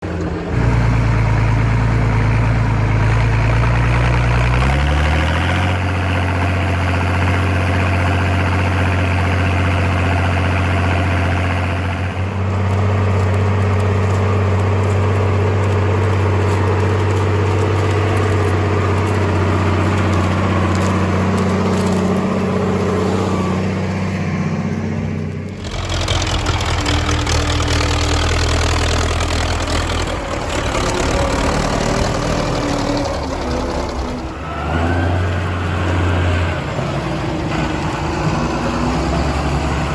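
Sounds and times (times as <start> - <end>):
mini tractor engine running: 0.0 - 39.9.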